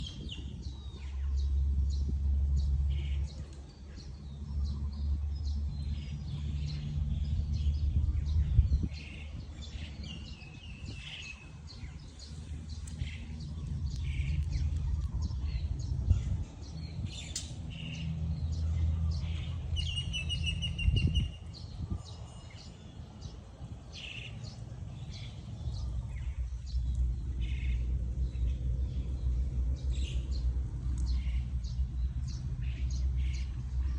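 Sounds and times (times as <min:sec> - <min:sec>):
birds chirping and calling: 0:00.0 - 0:33.9
low rumble: 0:00.0 - 0:33.9.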